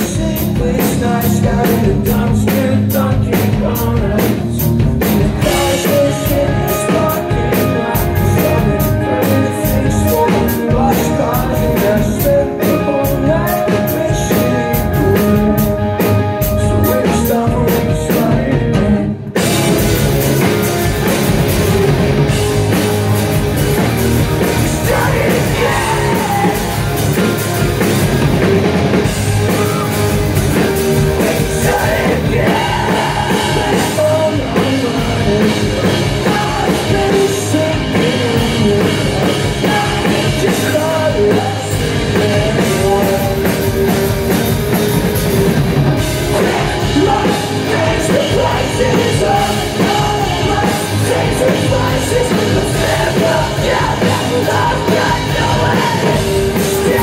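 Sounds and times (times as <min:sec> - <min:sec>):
man singing: 0:00.0 - 0:21.2, 0:23.8 - 0:27.6, 0:28.9 - 0:44.0, 0:46.0 - 0:57.0
bass guitar: 0:00.0 - 0:57.0
distorted electric guitars: 0:00.0 - 0:57.0
drum kit: 0:00.0 - 0:57.0.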